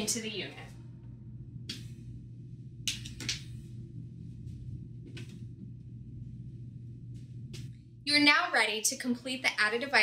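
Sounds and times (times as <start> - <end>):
air conditioner low hum: 0.0 - 10.0.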